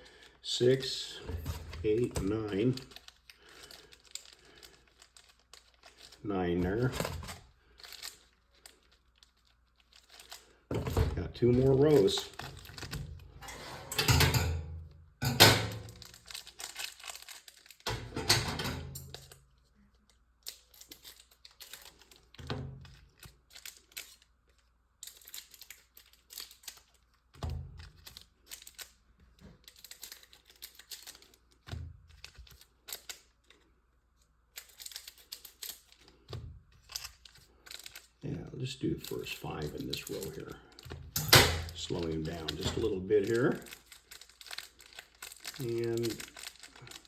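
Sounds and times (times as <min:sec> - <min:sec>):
card pack wrappers crinkling and tearing: 0:00.0 - 0:13.4, 0:15.3 - 0:33.8, 0:34.5 - 0:47.0
cards being shuffled and tapped: 0:00.0 - 0:13.4, 0:15.3 - 0:47.0.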